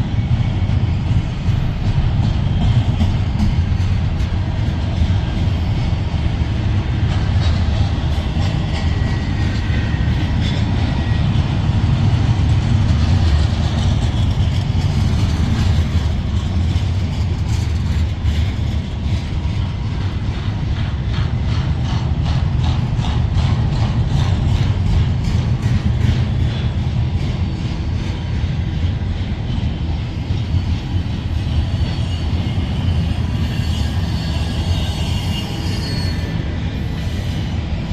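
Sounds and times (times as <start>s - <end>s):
train rumbling past: 0.0s - 37.9s.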